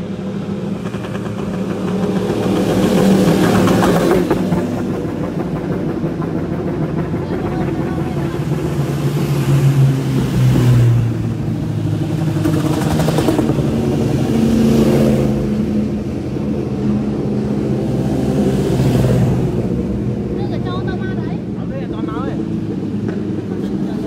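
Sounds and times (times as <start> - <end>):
racing motorcycles passing at speed: 0.0 - 24.0.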